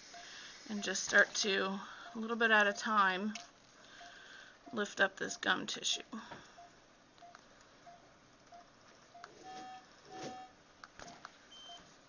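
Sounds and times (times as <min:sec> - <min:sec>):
patient monitor beeping: 0:00.0 - 0:11.9.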